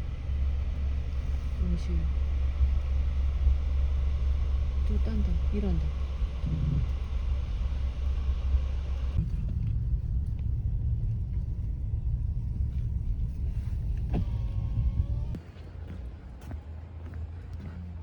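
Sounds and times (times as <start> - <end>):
road rumble inside car: 0.0 - 18.0.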